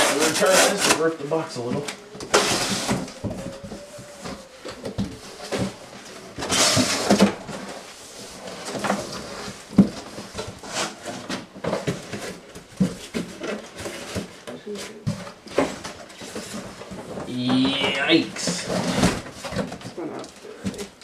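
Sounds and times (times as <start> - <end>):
cardboard scraping and rustling: 0.0 - 20.9.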